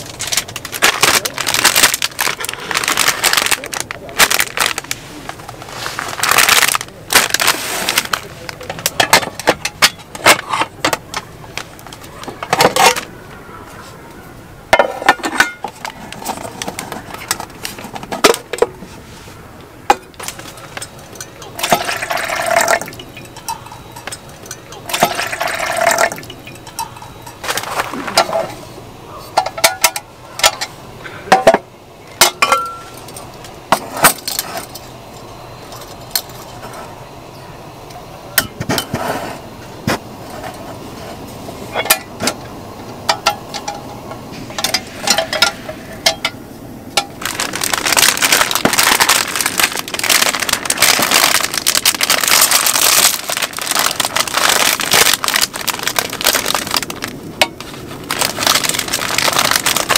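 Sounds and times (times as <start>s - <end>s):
crackly rushing noise: 0.0s - 38.3s, 39.0s - 59.9s.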